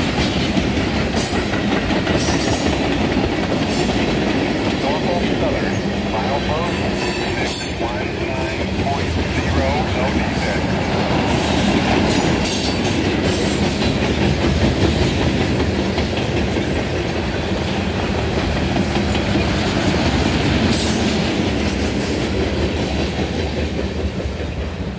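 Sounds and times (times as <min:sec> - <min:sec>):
freight train wheels on rails: 0:00.0 - 0:24.9.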